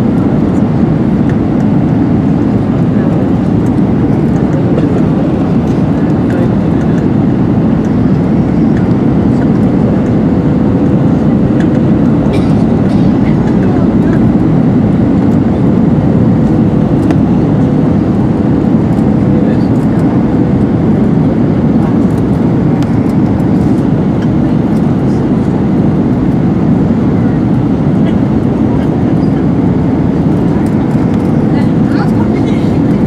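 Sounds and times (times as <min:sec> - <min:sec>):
airplane cabin roar: 0:00.0 - 0:33.0.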